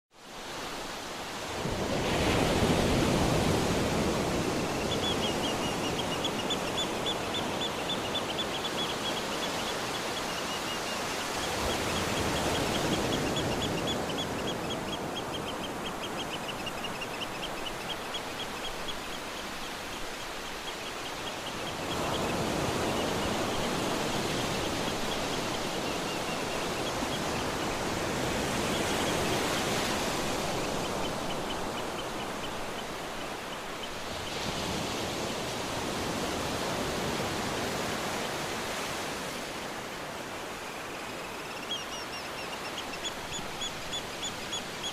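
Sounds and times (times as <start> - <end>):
ocean surf breaking on beach: 0.2 - 44.9.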